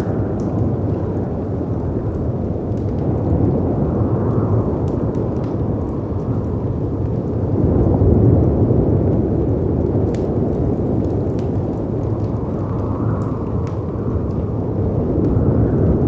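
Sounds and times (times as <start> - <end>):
faint wood fire crackling: 0.0 - 16.0
wind: 0.0 - 16.0.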